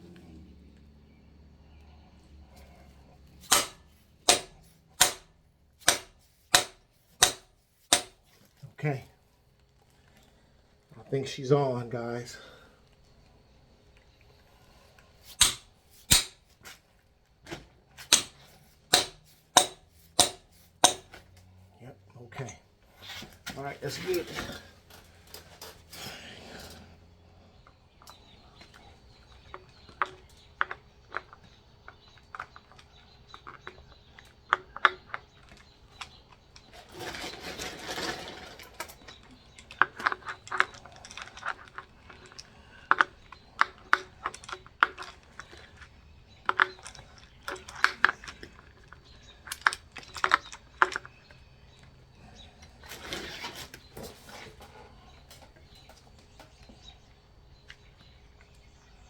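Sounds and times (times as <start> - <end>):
tools and metal parts clinking: 2.6 - 8.6, 15.0 - 21.6, 22.3 - 59.0.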